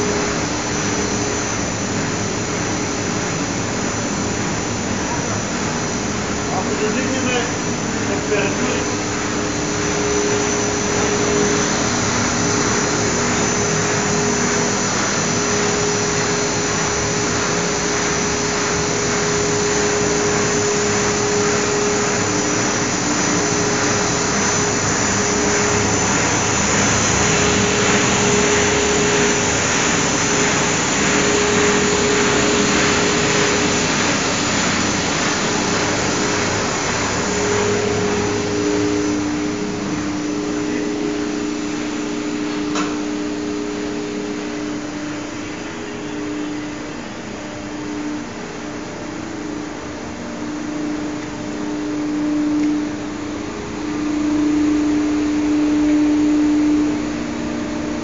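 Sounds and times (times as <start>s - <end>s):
blower rushing whir: 0.0s - 58.0s
constant machine hum: 0.0s - 58.0s.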